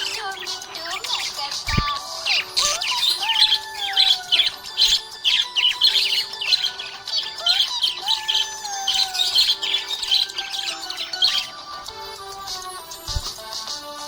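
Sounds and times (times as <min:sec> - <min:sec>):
budgerigars chirping: 0:00.0 - 0:13.4.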